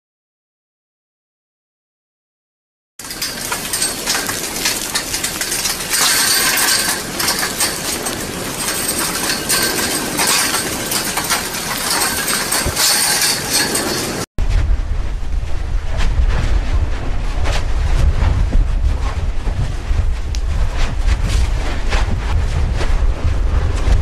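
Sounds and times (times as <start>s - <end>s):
lava chunks tumbling: 3.0s - 13.7s, 14.4s - 24.0s
lava crust clinking and crackling: 3.0s - 24.0s.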